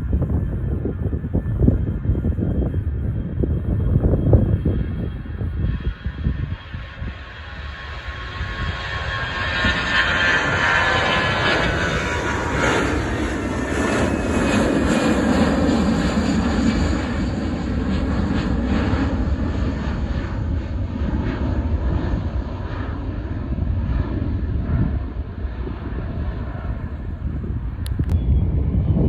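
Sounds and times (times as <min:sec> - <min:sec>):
airplane engines passing: 0:00.0 - 0:29.0.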